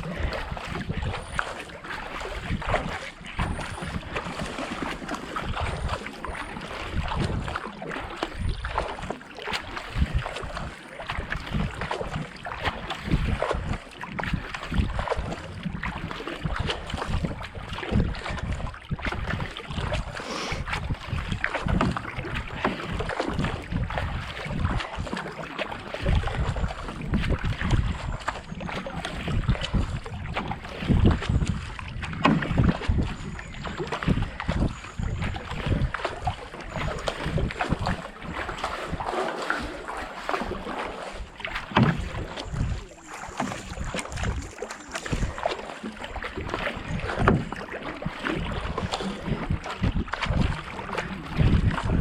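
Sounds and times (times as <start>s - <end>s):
paddle strokes splashing: 0.0s - 52.0s
wind buffeting microphone: 0.0s - 52.0s.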